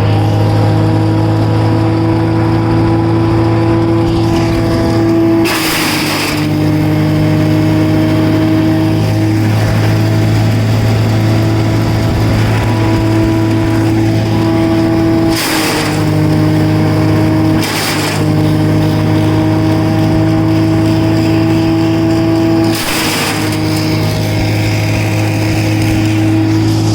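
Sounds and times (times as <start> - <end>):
wood chipper engine running: 0.0 - 26.9.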